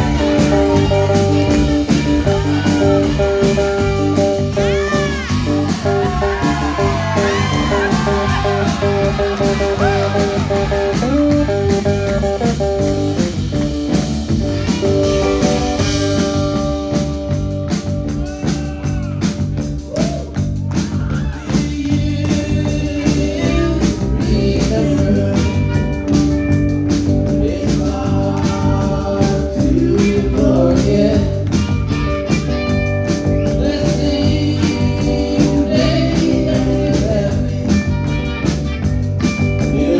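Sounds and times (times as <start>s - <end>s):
person singing: 0.0s - 13.4s, 14.4s - 31.5s, 33.2s - 38.5s, 39.5s - 39.9s
drum kit: 0.0s - 39.9s
electric guitars: 0.0s - 39.9s.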